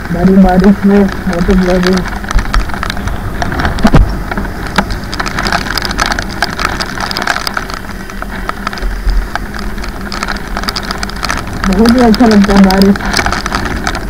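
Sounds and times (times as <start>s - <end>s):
heavy rain tapping on camera: 0.0s - 14.0s
wet road noise: 0.0s - 14.0s.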